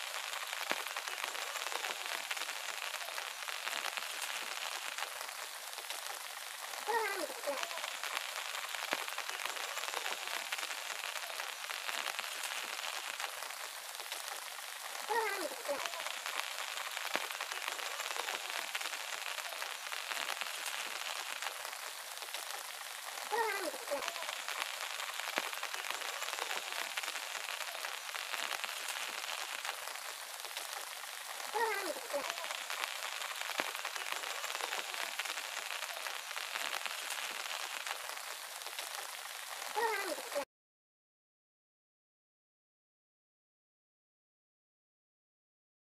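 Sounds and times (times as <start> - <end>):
light rain pattering: 0.0 - 40.5.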